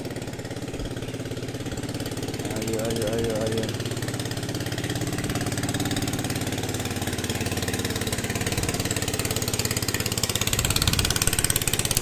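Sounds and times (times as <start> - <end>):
motorboat engine passing: 0.0 - 12.0.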